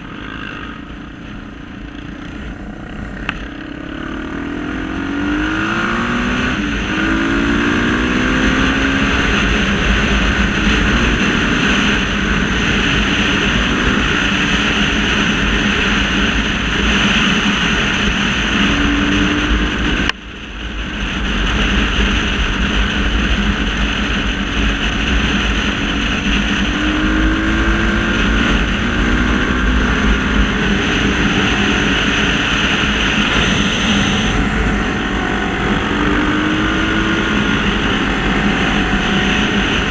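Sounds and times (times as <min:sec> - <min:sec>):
constant rush of noise: 0:00.0 - 0:39.9
motorcycle engines revving: 0:00.0 - 0:39.9.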